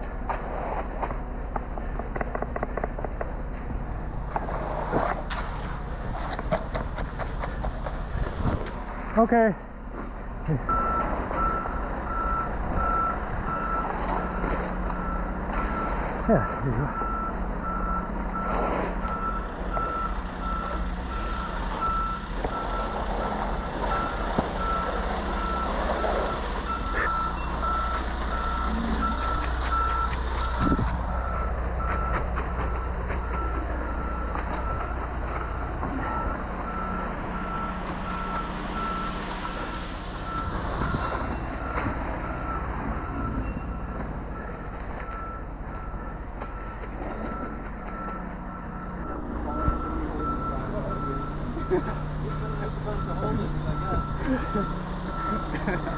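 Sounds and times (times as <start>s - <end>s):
diesel engine hum: 0.0s - 55.9s
truck backup alarm beeping: 10.4s - 55.9s.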